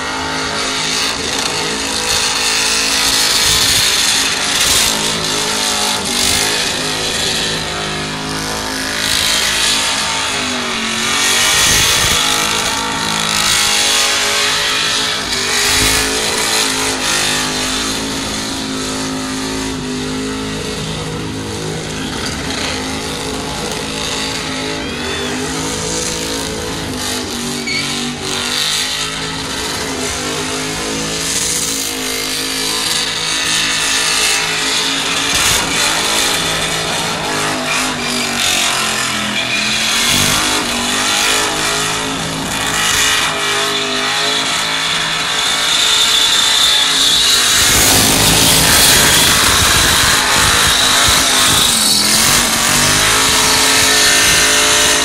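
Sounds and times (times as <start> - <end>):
engine at high revs: 0.0 - 55.0.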